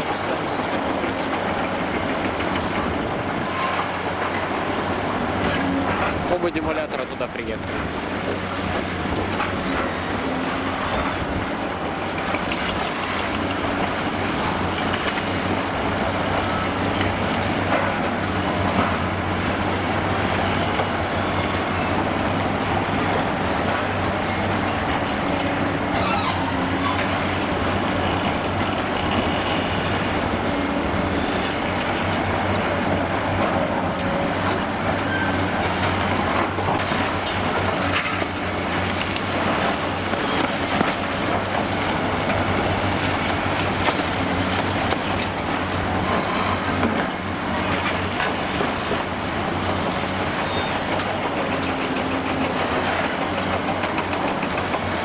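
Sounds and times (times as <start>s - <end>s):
excavator engine drone: 0.0s - 55.0s.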